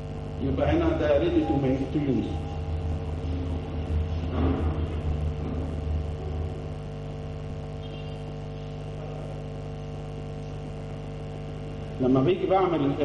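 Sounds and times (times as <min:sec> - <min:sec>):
electrical hum: 0:00.0 - 0:13.0
strong low hum: 0:00.0 - 0:13.0.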